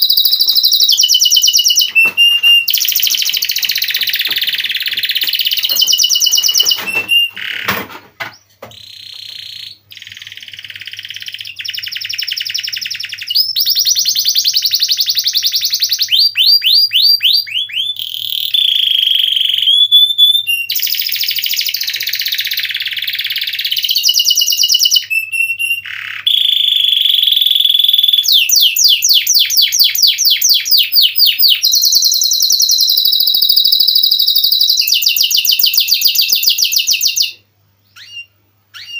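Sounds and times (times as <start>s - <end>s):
canary singing trills: 0.0s - 7.7s, 8.3s - 38.9s.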